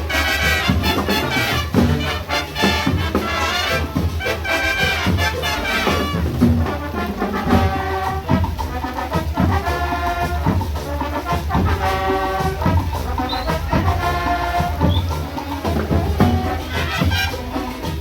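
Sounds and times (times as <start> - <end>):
brass chords: 0.0 - 18.0
drum beats: 0.0 - 18.0.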